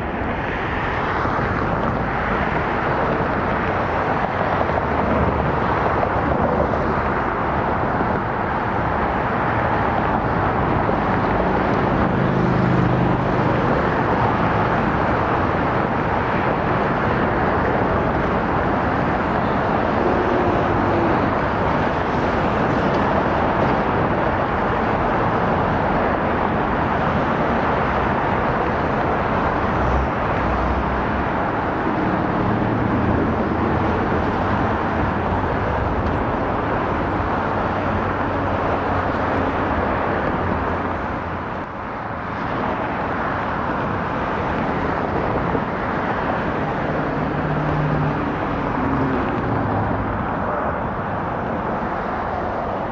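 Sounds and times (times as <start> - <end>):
rushing airport ambience: 0.0 - 52.9.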